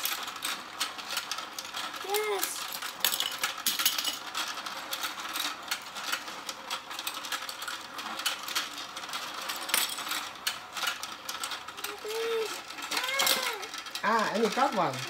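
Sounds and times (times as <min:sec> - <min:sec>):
toy motor mechanical clatter: 0:00.0 - 0:15.0.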